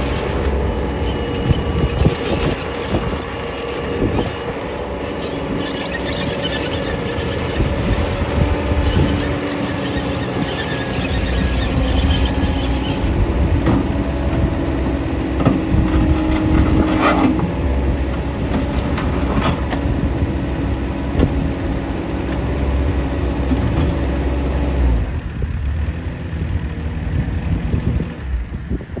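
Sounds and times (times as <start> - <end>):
hydraulic whine: 0.0 - 28.8
diesel engine running: 0.0 - 29.0.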